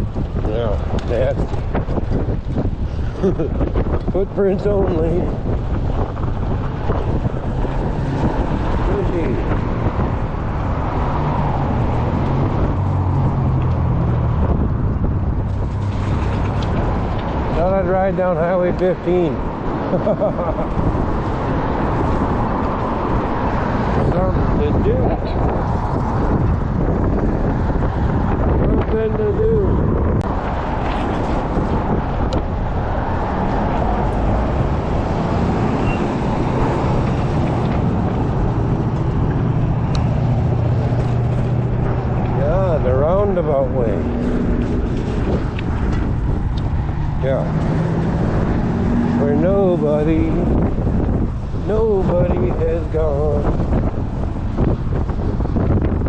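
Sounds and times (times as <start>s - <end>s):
road and motor noise: 0.0s - 56.0s
wind rumbling on microphone: 0.0s - 56.0s.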